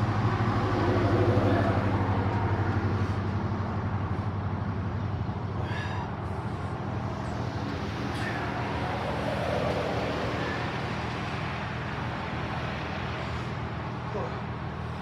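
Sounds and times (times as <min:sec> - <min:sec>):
car passing: 0:00.0 - 0:15.0
road traffic noise: 0:00.0 - 0:15.0.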